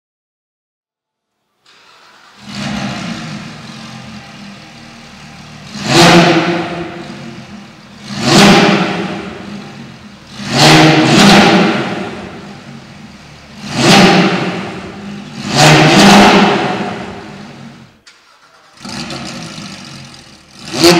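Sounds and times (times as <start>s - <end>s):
car engine idling and revving: 1.7s - 20.9s.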